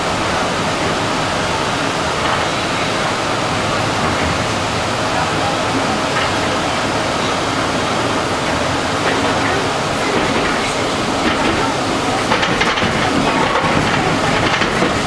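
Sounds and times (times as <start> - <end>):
subway train rumbling in tunnel: 0.0 - 15.0.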